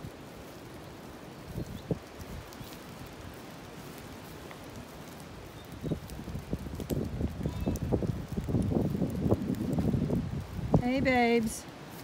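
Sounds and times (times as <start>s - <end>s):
footsteps on wet grass: 0.0s - 12.0s.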